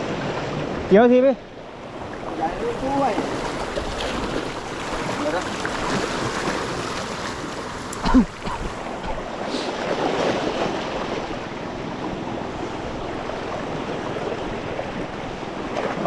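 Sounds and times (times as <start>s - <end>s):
waves on rocky shore: 0.0s - 16.0s.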